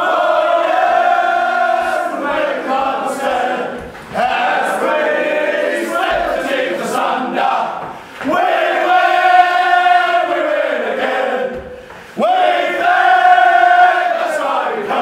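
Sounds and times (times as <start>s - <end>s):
men singing in unison: 0.0s - 15.0s.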